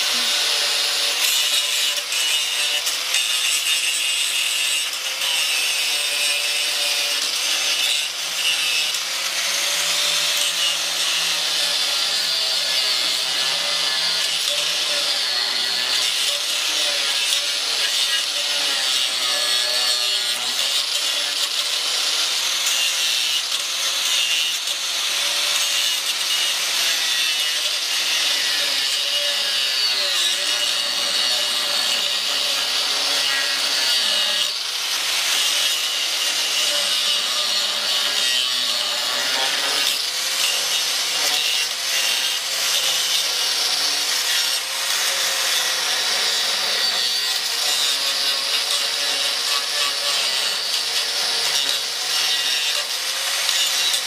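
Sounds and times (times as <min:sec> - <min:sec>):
angle grinder cutting steel: 0:00.0 - 0:54.0.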